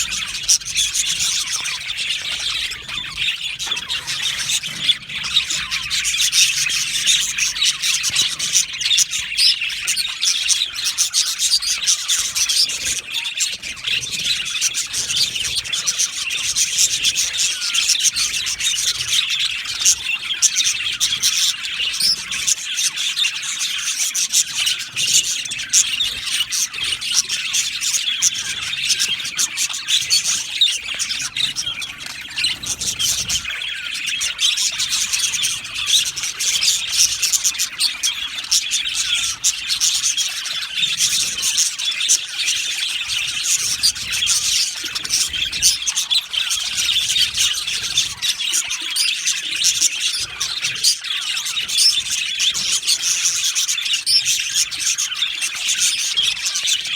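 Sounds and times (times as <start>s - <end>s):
budgerigars chirping and chattering: 0.0s - 56.9s.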